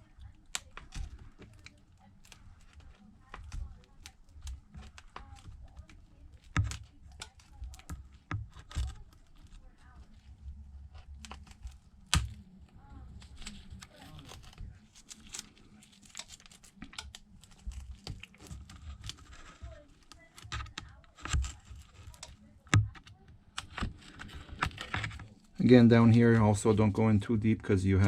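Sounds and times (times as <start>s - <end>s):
glass crackling and snapping: 0.0s - 26.8s.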